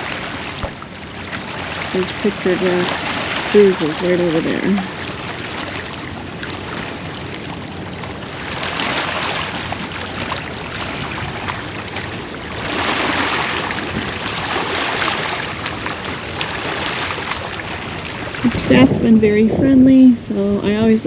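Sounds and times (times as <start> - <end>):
small waves washing against shore: 0.0 - 21.0.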